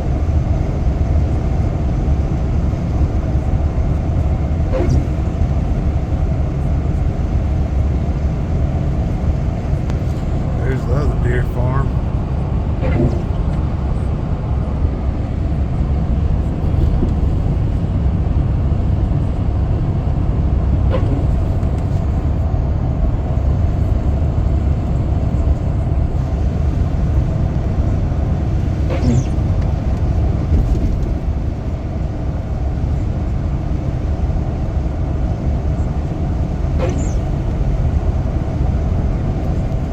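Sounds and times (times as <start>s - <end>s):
car engine and tyres on road: 0.0s - 39.9s.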